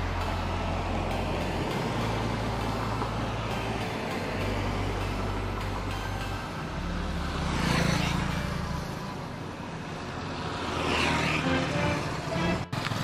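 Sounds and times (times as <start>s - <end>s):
road traffic rumble: 0.0s - 13.0s
vehicles passing by: 0.0s - 13.0s.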